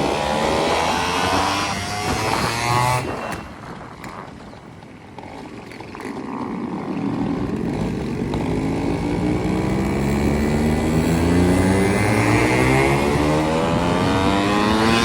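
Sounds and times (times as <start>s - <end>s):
motorcycle engine accelerating: 0.0s - 4.5s, 5.1s - 15.0s.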